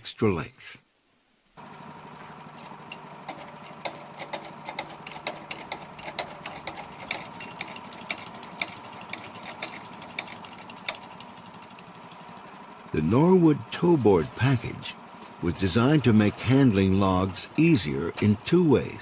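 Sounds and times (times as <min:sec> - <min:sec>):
sharp clicks and knocks: 0:01.6 - 0:12.5, 0:13.6 - 0:18.9
small engine running: 0:01.6 - 0:19.0.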